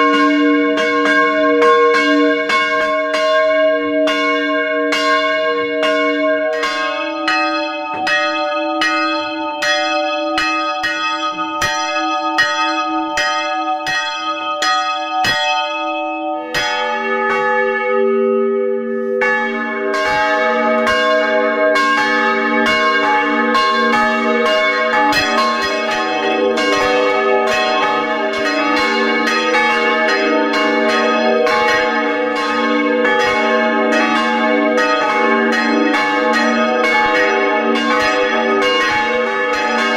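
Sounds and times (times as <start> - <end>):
church bells ringing: 0.0 - 39.9
deeper bell ringing: 0.0 - 39.9.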